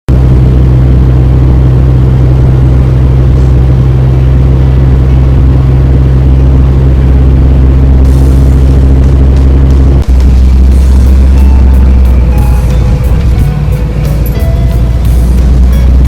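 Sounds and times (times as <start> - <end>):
car engine droning: 0.1 - 16.0.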